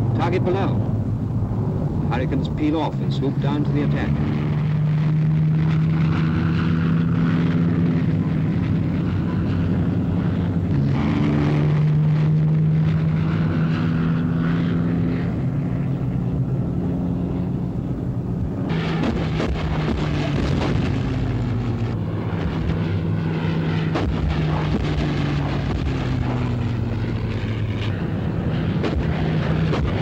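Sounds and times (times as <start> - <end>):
piston aircraft engines droning: 0.0 - 30.0.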